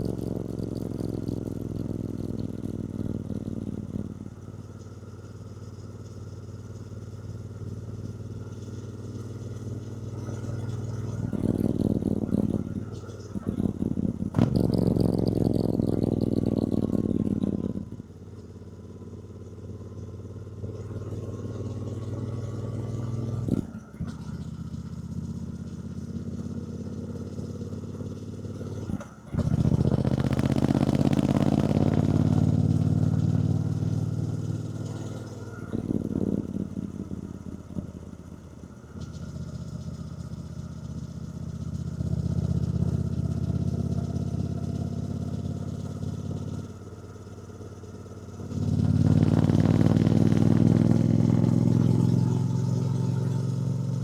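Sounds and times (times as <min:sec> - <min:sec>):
motorcycle engine under way: 0:00.0 - 0:54.0.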